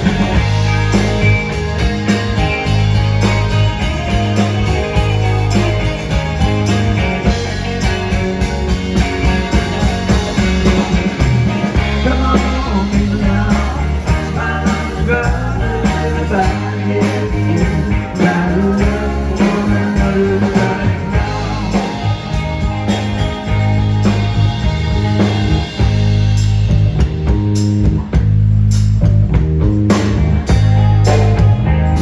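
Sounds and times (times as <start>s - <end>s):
drum beat: 0.0s - 16.7s, 17.4s - 32.0s
bass line: 0.0s - 32.0s
live rock band playing: 0.0s - 32.0s.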